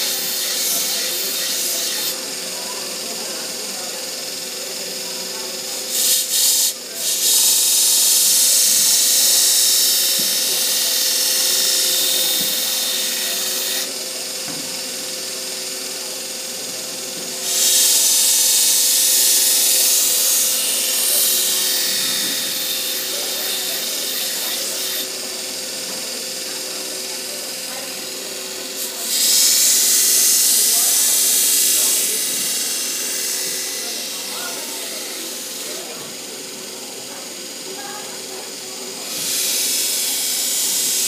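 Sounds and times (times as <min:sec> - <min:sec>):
belt grinder humming: 0:00.0 - 0:41.0
blade grinding on belt: 0:00.0 - 0:41.0.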